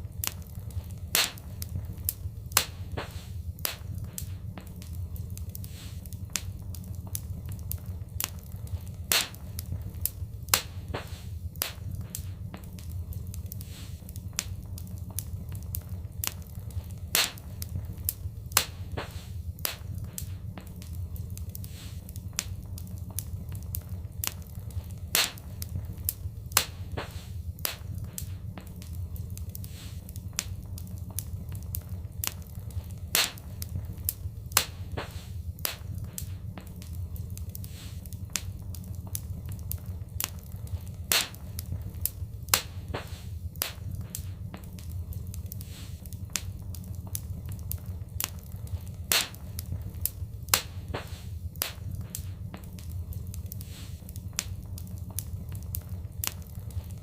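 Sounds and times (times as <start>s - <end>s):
steady low rumble: 0.0s - 57.0s
wood fire crackling and popping: 0.0s - 57.0s.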